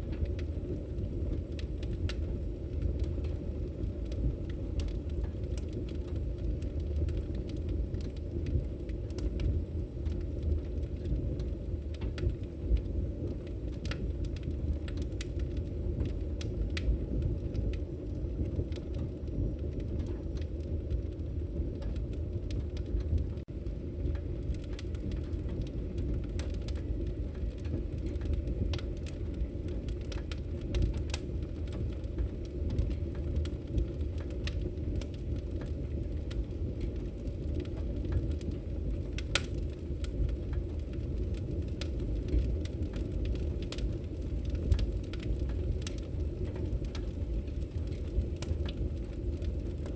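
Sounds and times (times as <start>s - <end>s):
fire rumble: 0.0s - 49.9s
wood fire pops and snaps: 0.0s - 49.9s.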